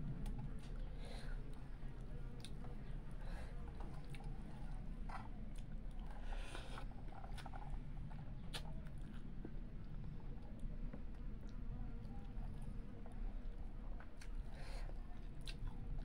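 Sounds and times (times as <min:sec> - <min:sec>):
close-up chewing: 0:00.2 - 0:16.0.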